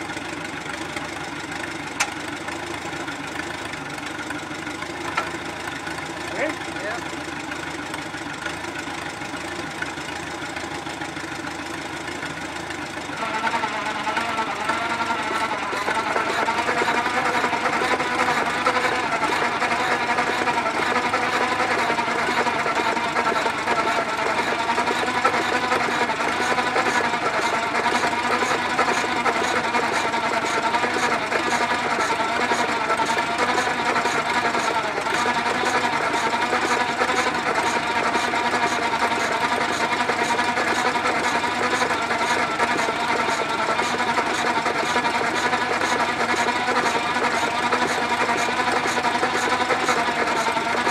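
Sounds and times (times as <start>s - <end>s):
tractor engine running: 0.0s - 50.9s
engine clattering being spun over: 0.8s - 6.7s, 11.4s - 50.9s.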